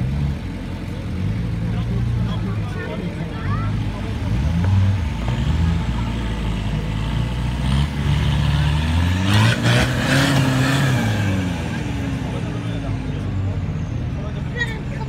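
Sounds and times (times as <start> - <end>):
buggy engine revving under load: 0.0 - 14.3.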